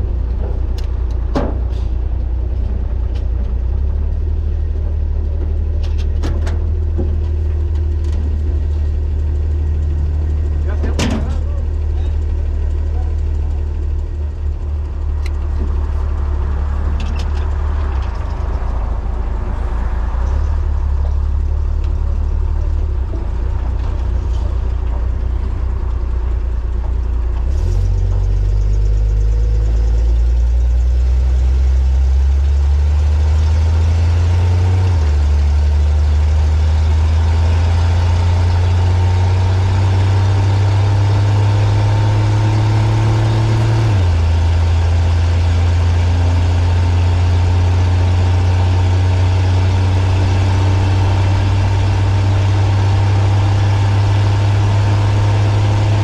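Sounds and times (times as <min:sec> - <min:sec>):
truck engine driving off: 0:00.0 - 0:56.0.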